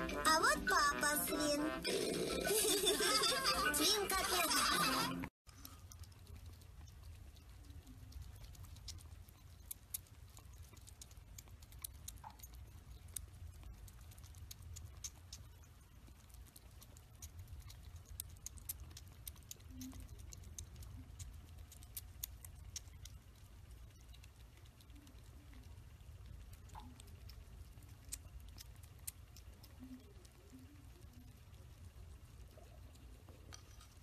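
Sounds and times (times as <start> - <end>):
low steady hum: 0.0 - 34.0
kitten lapping milk: 5.5 - 34.0.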